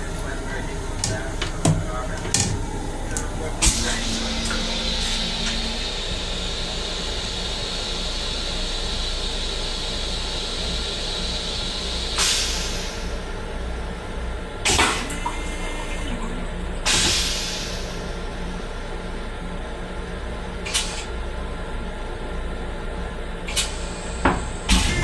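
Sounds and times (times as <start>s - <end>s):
train toilet flush hissing: 0.0s - 13.6s, 14.6s - 21.3s, 23.4s - 25.0s.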